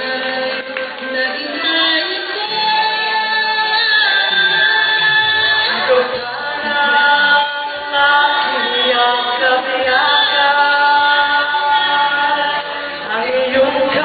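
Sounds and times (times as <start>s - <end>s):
man and woman singing duet: 0.0s - 14.0s.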